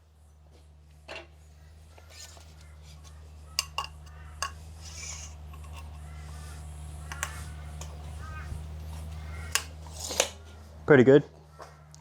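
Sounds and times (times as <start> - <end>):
steady low hum: 0.0 - 12.0
faint bird calls: 1.4 - 12.0.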